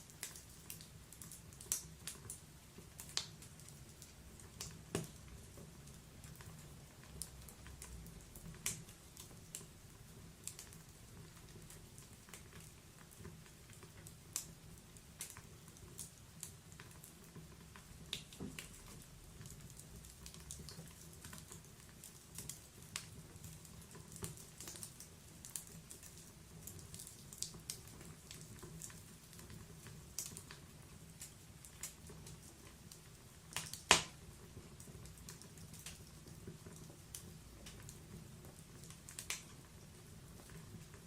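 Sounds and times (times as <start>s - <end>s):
log fire crackling: 0.0s - 41.0s.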